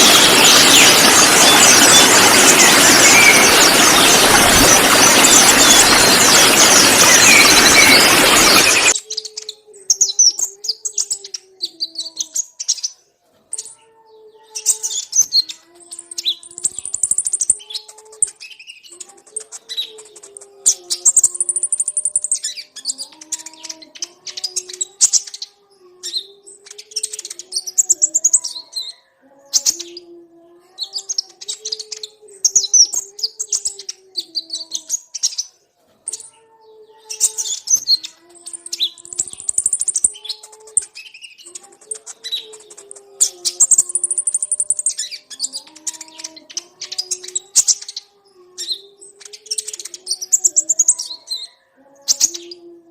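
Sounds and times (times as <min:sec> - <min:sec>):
sunbirds chirping and twittering: 0:00.0 - 0:52.9.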